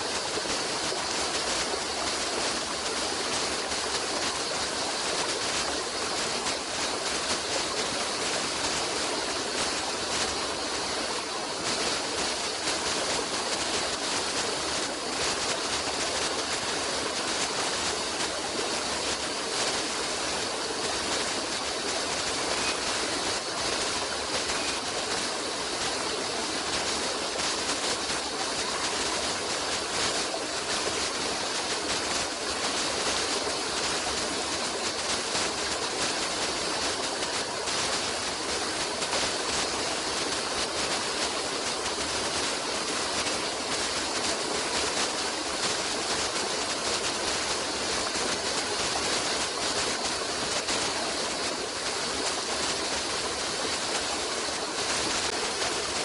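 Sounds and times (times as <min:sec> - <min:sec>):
stream of running water: 0:00.0 - 0:56.0.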